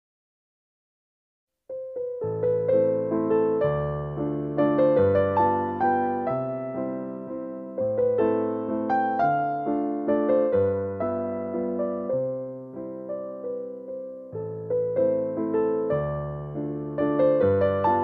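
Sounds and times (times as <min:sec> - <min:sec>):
slow gentle piano music: 0:01.7 - 0:18.0.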